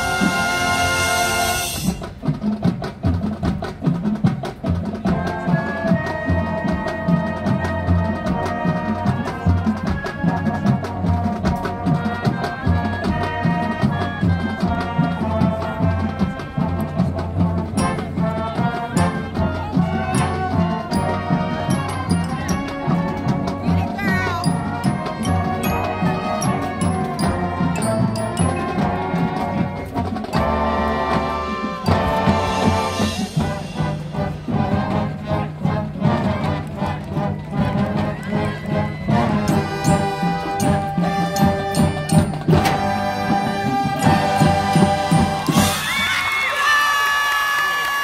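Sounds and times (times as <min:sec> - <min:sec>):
steady drumbeat: 0:00.0 - 0:46.4
marching band playing: 0:00.0 - 0:46.8.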